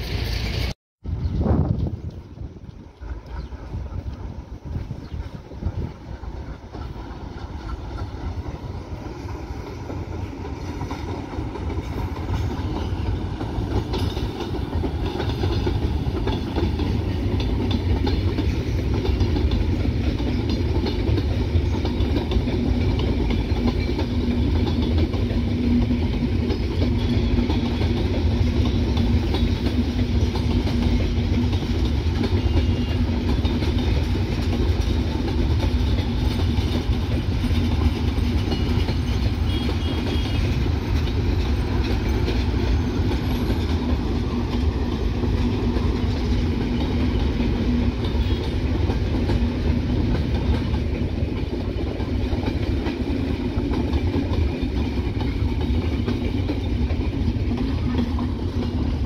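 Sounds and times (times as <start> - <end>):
train rumbling past: 0.0 - 59.0
train wheels clattering: 0.0 - 59.0.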